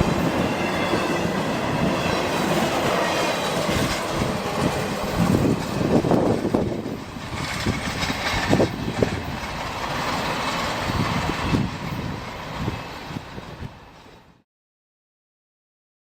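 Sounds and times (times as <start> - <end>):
train cars rolling across bridge: 0.0 - 14.4.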